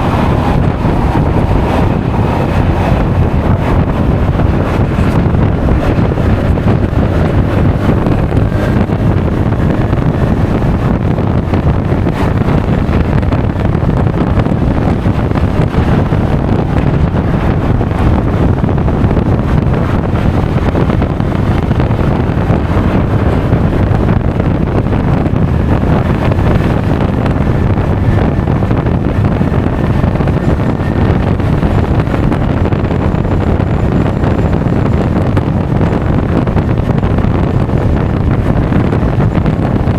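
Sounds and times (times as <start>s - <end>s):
scooter engine and tyre noise: 0.0s - 39.9s
wind buffeting microphone: 0.0s - 39.9s.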